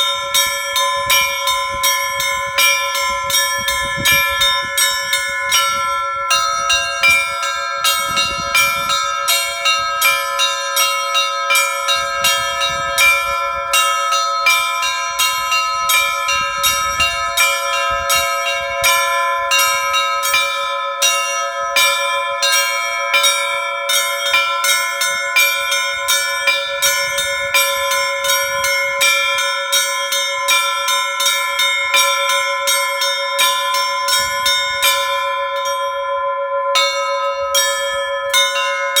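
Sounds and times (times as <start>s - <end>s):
church bells pealing: 0.0s - 39.0s
deep heavy bell: 0.0s - 39.0s
small bells struck rapidly: 0.0s - 39.0s.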